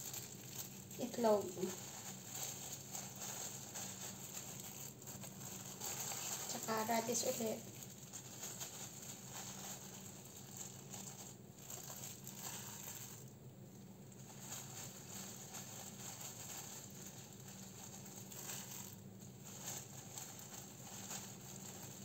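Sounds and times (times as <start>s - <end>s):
plastic gloves crinkling: 0.0s - 22.0s.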